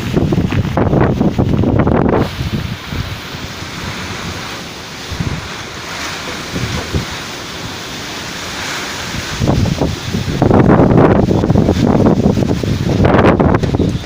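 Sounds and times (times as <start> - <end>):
heavy rain hissing: 0.0 - 14.0
wind buffeting microphone: 0.0 - 14.0.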